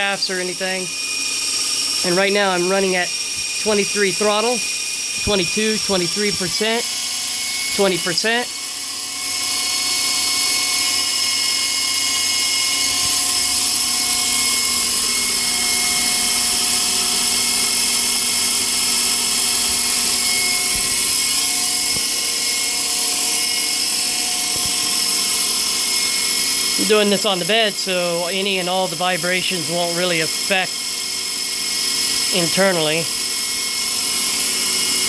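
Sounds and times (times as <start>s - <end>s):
rc helicopter motor whine: 0.0s - 35.0s.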